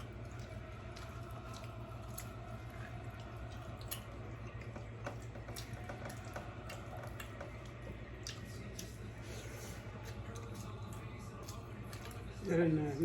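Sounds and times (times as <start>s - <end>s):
wet chewing sounds: 0.0s - 13.0s.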